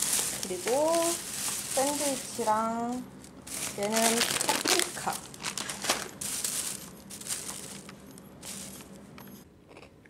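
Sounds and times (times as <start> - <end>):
plastic bag rustling and crinkling: 0.0 - 9.1.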